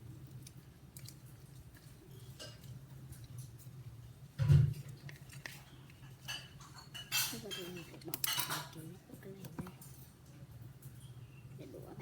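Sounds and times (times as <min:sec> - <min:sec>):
faint handling noises: 0:00.2 - 0:11.2.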